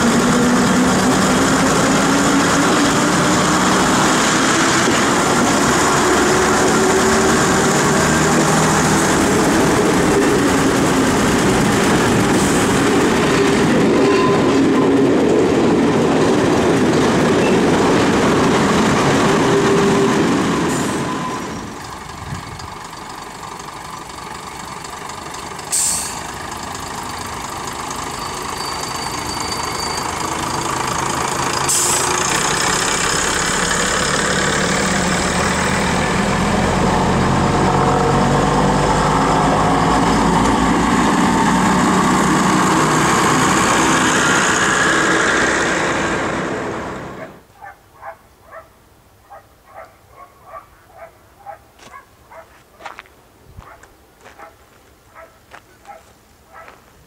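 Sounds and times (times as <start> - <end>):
train diesel engines running: 0.0 - 47.6.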